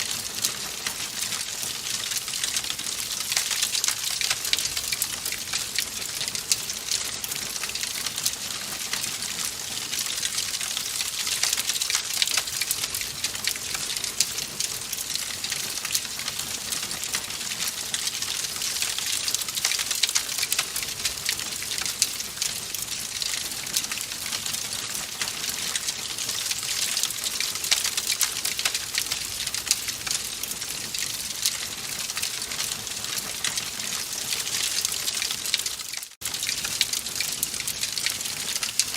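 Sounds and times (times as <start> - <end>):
fire crackling in a fireplace: 0.0 - 38.9.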